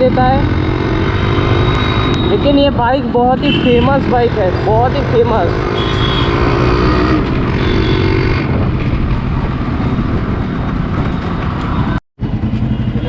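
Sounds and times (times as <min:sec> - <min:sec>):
two-stroke motorcycle engine: 0:00.0 - 0:10.1, 0:12.2 - 0:13.0
wind and road noise: 0:00.0 - 0:13.0.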